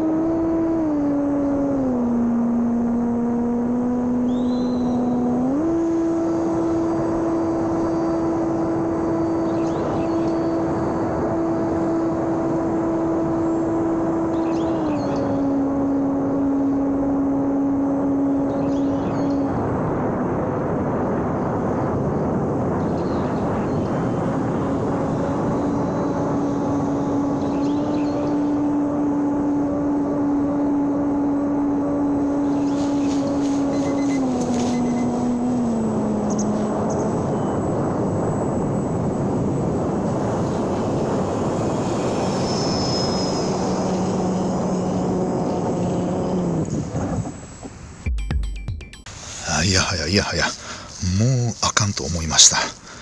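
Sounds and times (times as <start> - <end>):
model airplane electric motor: 0.0 - 47.7
continuous rushing noise: 0.0 - 48.1, 49.1 - 53.0.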